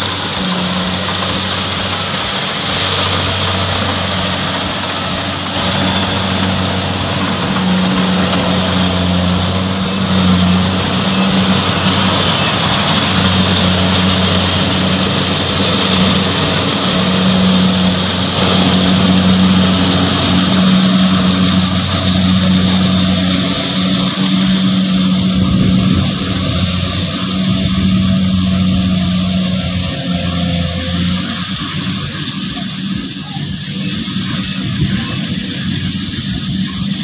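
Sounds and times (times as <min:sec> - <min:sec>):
low engine hum: 0:00.0 - 0:37.0
machinery churning: 0:00.0 - 0:37.0.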